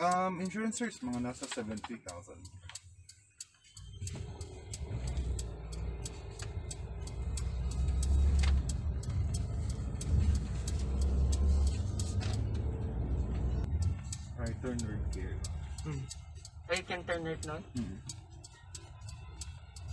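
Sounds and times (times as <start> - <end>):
car engine and road rumble: 0.0 - 19.9
regular ticking: 0.0 - 19.9.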